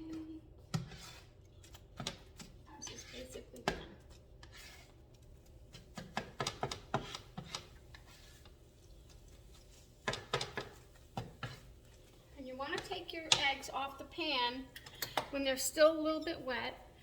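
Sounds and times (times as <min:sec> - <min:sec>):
spatula scraping a frying pan: 0:00.1 - 0:14.6.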